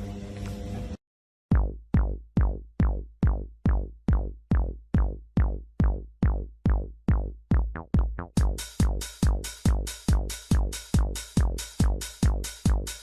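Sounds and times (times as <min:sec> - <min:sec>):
drum machine kick drum: 0:01.5 - 0:13.0.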